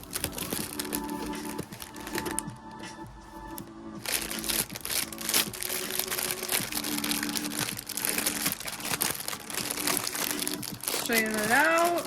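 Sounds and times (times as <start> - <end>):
plastic packaging crinkling: 0.0 - 2.5, 3.5 - 12.0
soft background music: 0.0 - 12.0.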